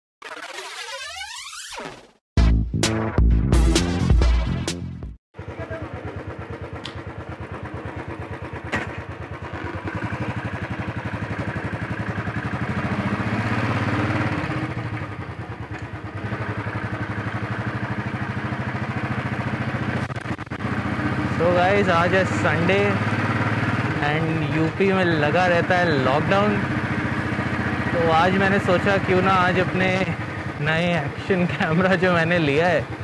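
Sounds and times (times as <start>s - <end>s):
motorcycle engine running: 5.4s - 33.0s.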